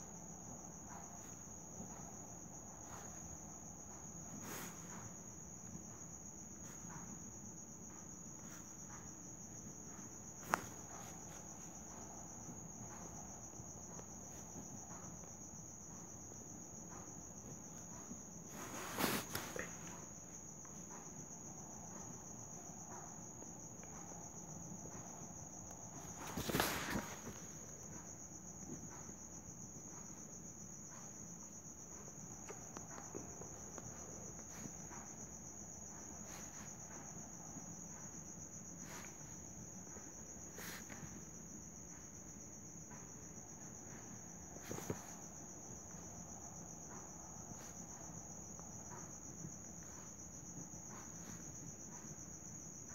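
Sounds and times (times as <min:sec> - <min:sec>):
cricket trilling: 0:00.0 - 0:52.9.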